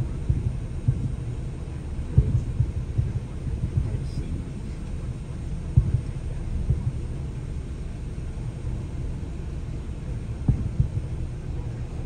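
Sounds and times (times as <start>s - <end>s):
low rumble in car: 0.0s - 12.0s
muffled distant fireworks booming: 0.0s - 12.0s.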